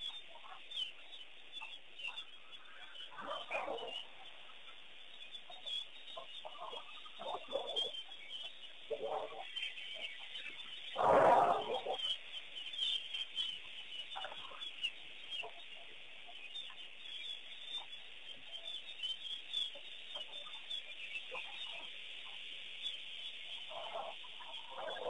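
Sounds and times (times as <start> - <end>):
birds chirping and calling: 0.0 - 25.0.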